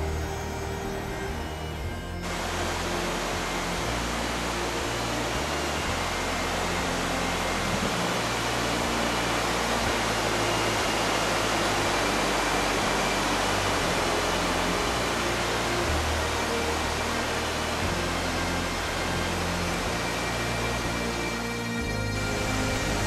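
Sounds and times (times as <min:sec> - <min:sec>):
river water rushing over dam: 0:02.2 - 0:23.0.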